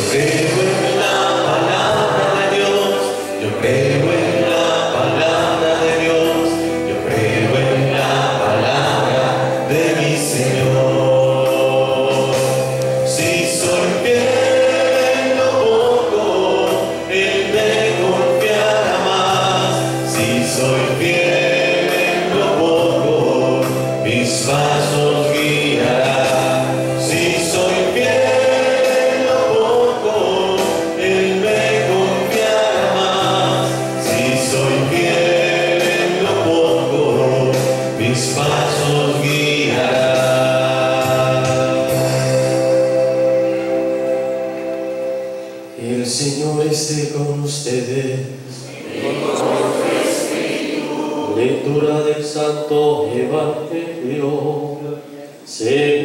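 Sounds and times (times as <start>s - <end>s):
instrumental accompaniment: 0.0s - 46.8s
voices singing church song: 0.0s - 56.0s.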